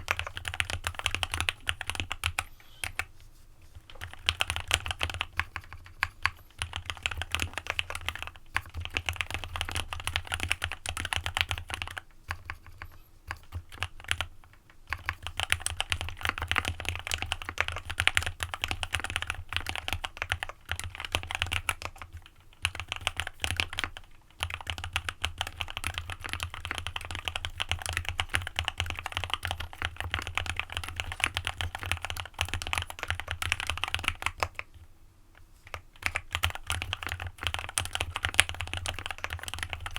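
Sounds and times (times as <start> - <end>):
mechanical keyboard typing: 0.0 - 3.1, 3.9 - 34.8, 35.7 - 39.9.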